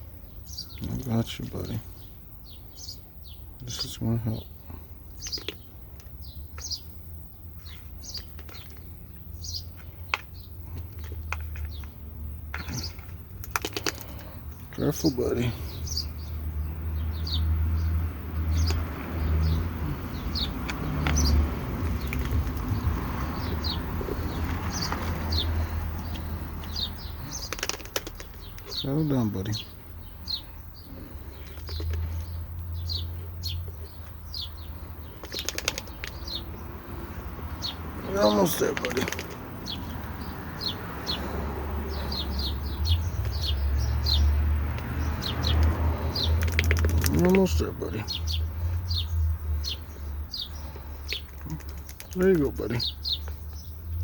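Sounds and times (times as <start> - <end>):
small bird chirping: 0.0 - 54.0.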